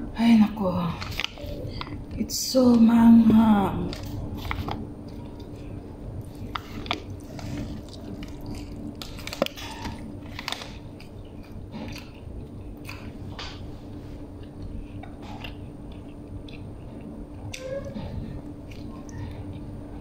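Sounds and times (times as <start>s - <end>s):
person chewing bread: 3.9s - 20.0s.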